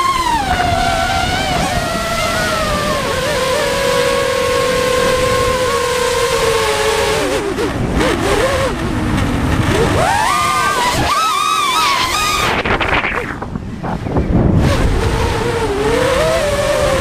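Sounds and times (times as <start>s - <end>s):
drone motors whining: 0.0s - 17.0s
wind rushing over microphone: 0.0s - 17.0s.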